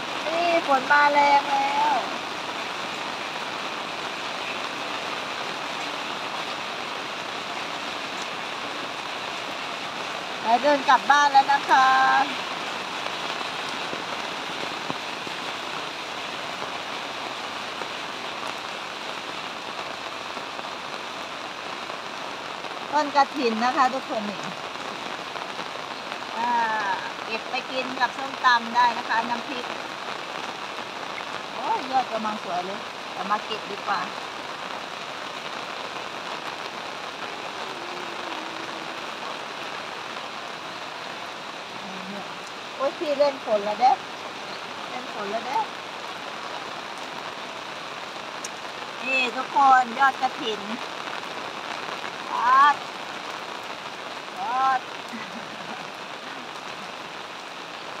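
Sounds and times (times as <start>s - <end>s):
faint raindrop ticks: 0.0s - 15.4s, 21.9s - 41.2s, 41.8s - 58.0s
heavy rain on pavement: 0.0s - 58.0s.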